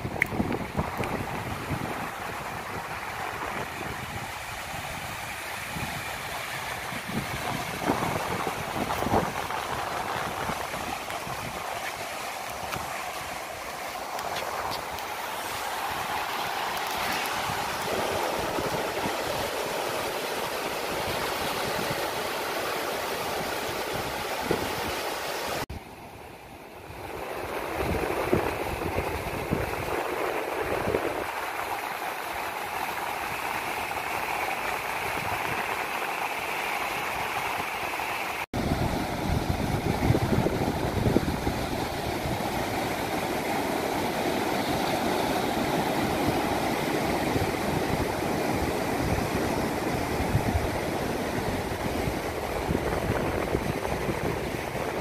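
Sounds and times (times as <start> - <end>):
sea surf breaking on beach: 0.0 - 55.0.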